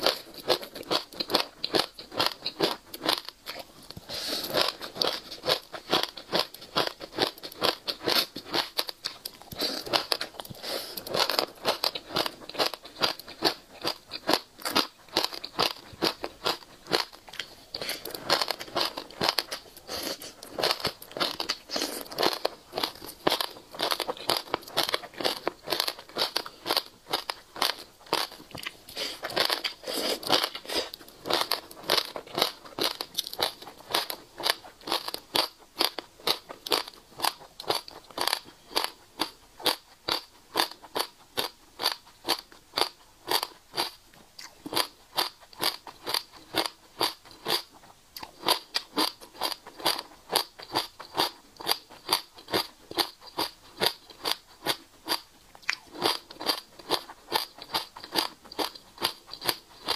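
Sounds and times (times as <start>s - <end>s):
seeds crunching in chewing: 0.0s - 59.9s.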